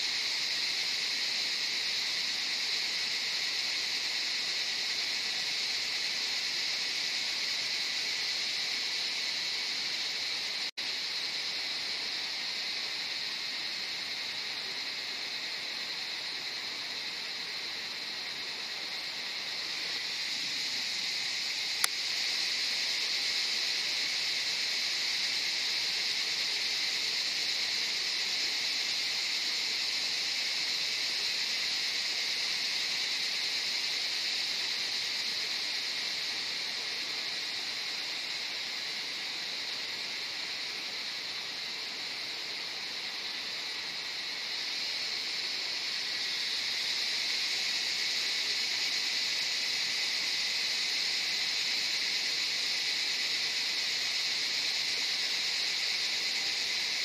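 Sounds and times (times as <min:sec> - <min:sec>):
cicadas droning: 0:00.0 - 0:57.0.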